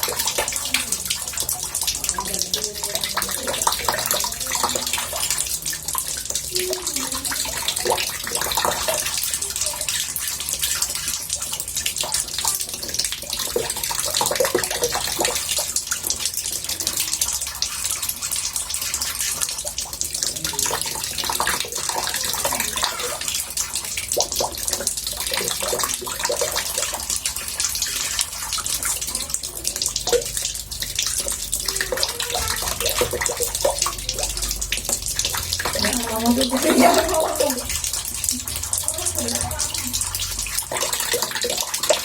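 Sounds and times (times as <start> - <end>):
water running into bathtub: 0.0 - 42.0.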